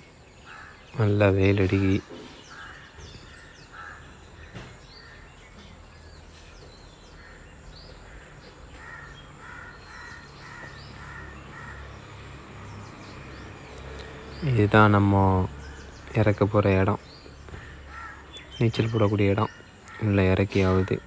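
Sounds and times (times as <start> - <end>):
birds repeated short calls: 0.0 - 21.0
high bird chirps: 0.0 - 21.0.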